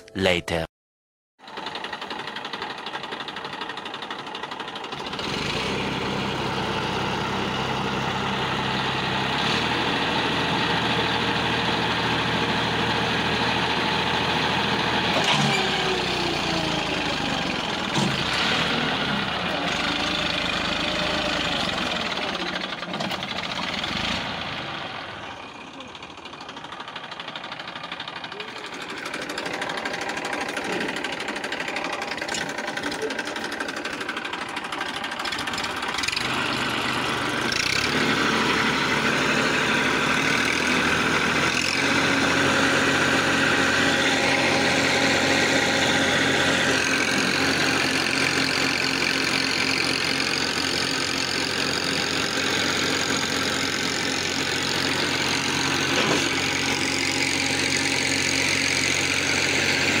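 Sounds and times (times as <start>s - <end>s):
tractor diesel engine revving: 1.4s - 60.0s.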